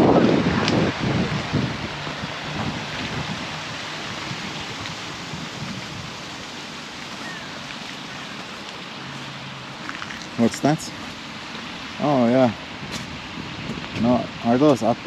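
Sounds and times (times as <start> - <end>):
rain falling: 0.0 - 15.0
wind buffeting microphone: 0.0 - 15.0.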